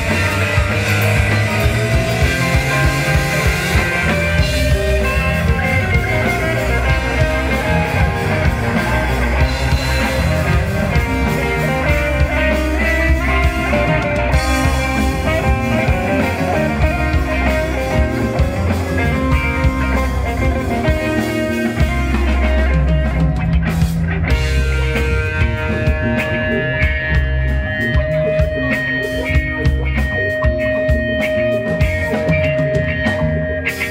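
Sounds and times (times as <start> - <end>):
electric guitar: 0.0 - 33.9
rock band playing: 0.0 - 33.9.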